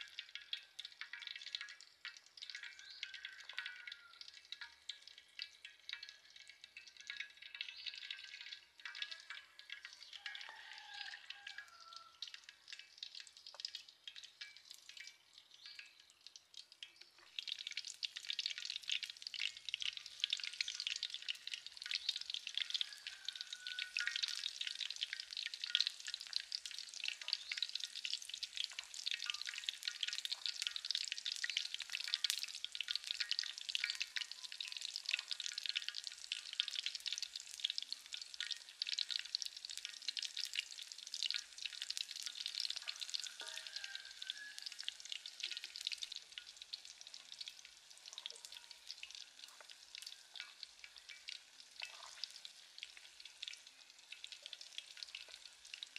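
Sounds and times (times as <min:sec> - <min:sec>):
chicken deep-frying in oil: 0:00.0 - 0:55.9.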